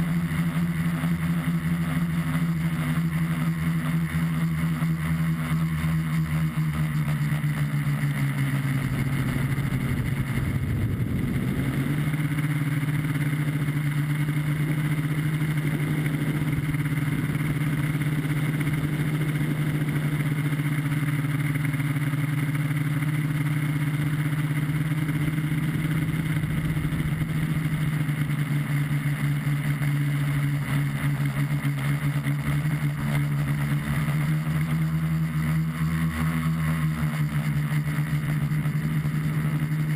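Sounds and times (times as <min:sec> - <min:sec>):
drone motors and propellers buzzing: 0:00.0 - 0:39.9.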